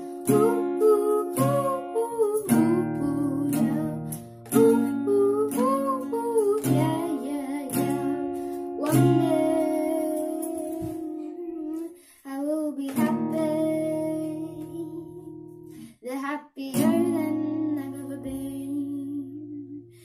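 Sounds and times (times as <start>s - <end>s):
acoustic guitar strumming: 0.0s - 11.9s, 12.9s - 16.0s, 16.7s - 19.4s
boy singing: 0.0s - 19.9s.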